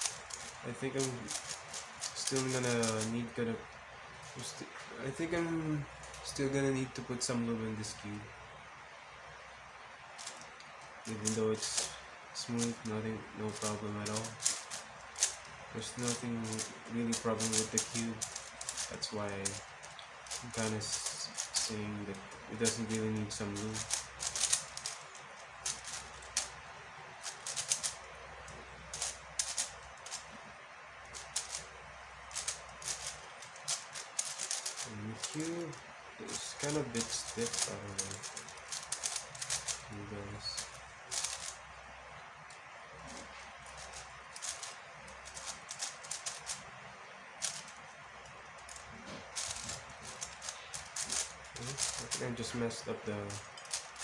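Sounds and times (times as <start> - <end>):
speed cube clicking: 0.0 - 3.4, 10.2 - 12.9, 13.5 - 30.4, 31.0 - 41.6, 43.6 - 54.0
steady hiss: 0.0 - 54.0.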